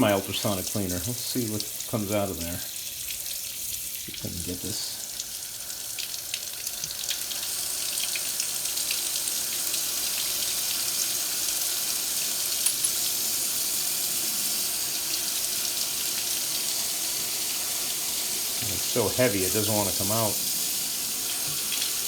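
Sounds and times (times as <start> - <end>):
running water flushing: 0.0 - 22.0.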